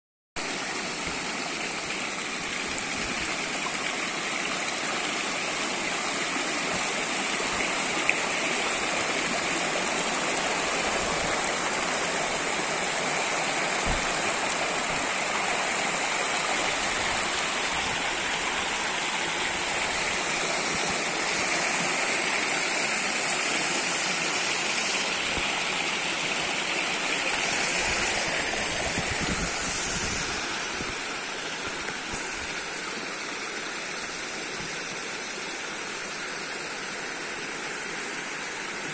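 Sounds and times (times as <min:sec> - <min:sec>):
water gushing from spouts: 0:00.4 - 0:38.9.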